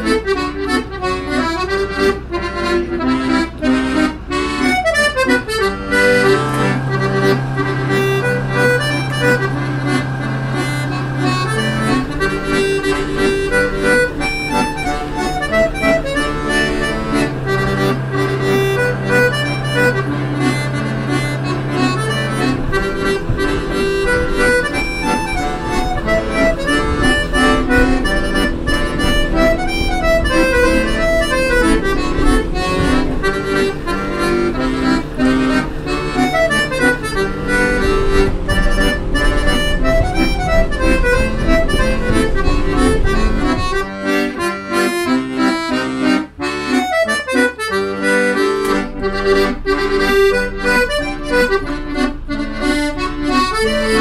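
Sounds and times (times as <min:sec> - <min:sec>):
background music melody: 0:00.0 - 0:54.0.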